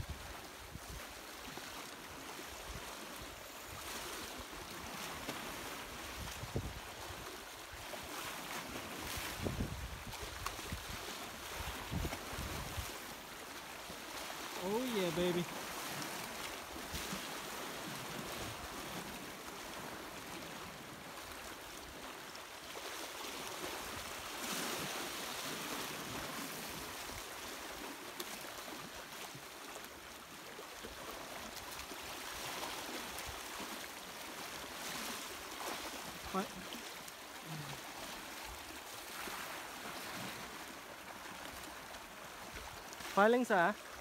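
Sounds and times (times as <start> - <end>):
small waves lapping on rocks: 0.0 - 44.0.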